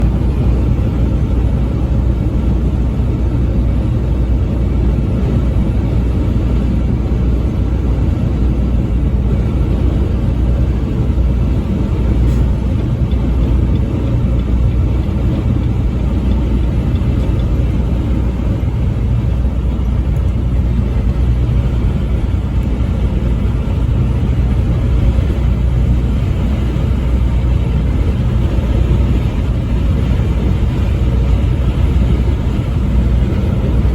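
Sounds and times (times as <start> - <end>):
road rumble: 0.0 - 33.9
truck engine drone: 0.0 - 33.9.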